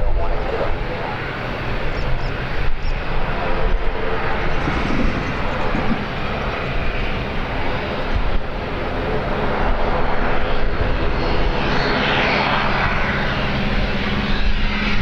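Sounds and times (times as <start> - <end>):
airliner engines rushing: 0.0 - 15.0.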